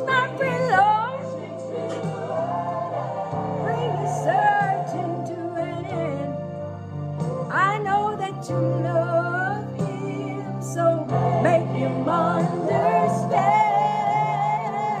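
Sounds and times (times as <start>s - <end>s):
woman singing gospel song: 0.0s - 2.7s, 3.6s - 6.5s, 7.5s - 15.0s.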